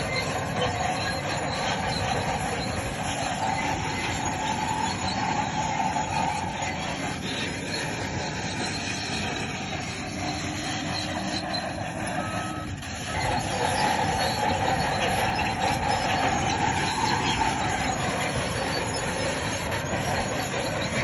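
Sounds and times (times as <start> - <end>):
bulldozer engine running: 0.0 - 21.0
steel tracks squealing: 0.0 - 21.0.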